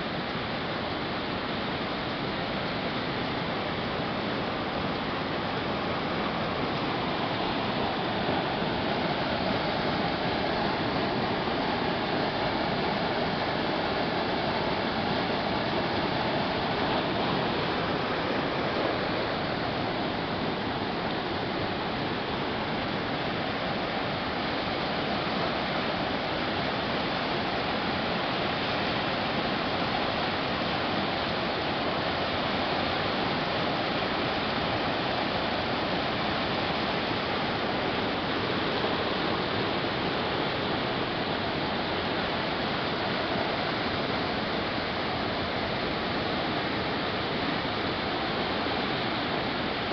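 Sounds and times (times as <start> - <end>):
flooded creek water rushing: 0.0 - 49.9.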